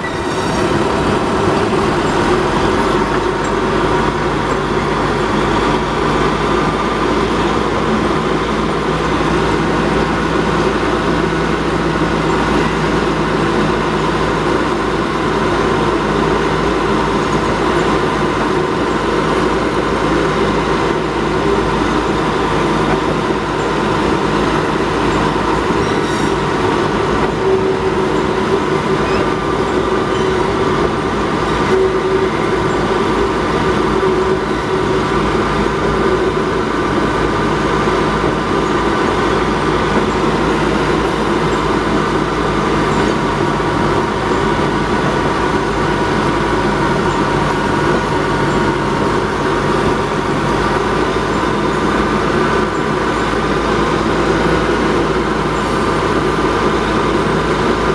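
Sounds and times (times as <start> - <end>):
diesel locomotive engine drone: 0.0 - 57.9
wheels rumbling on rails: 0.0 - 57.9.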